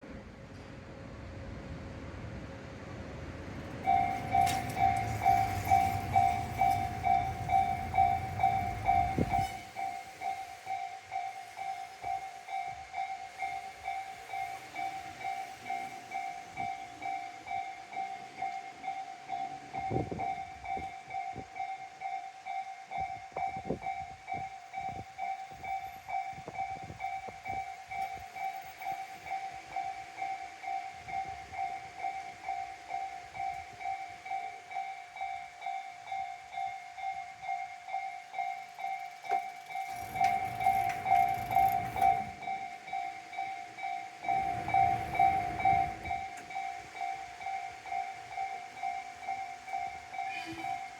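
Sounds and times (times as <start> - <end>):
level crossing warning bell: 3.4 - 50.9.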